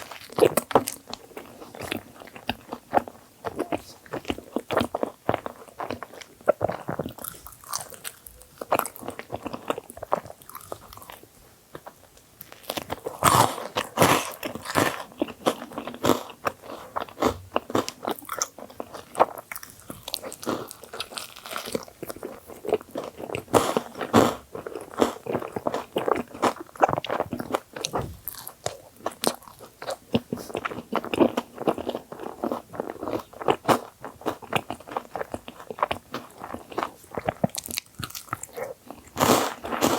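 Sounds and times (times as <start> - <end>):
close-miked bites and wet chewing: 0.0 - 39.9.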